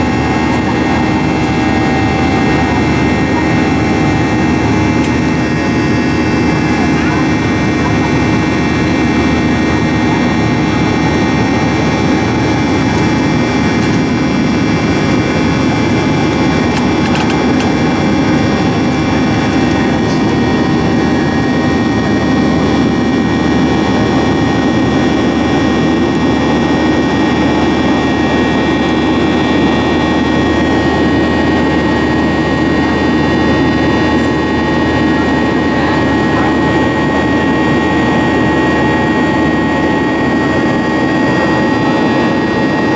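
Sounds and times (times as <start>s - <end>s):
jet engine drone: 0.0s - 42.9s.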